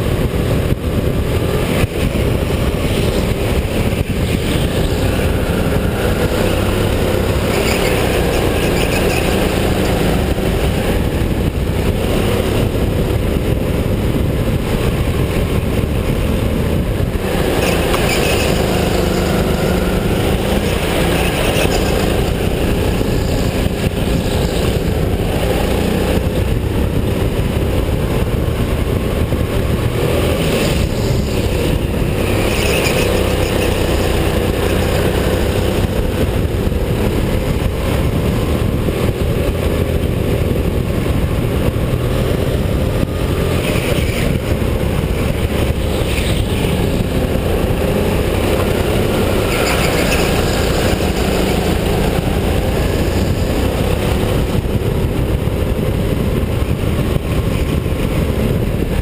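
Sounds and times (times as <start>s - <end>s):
go-kart motor racing: 0.0s - 59.0s.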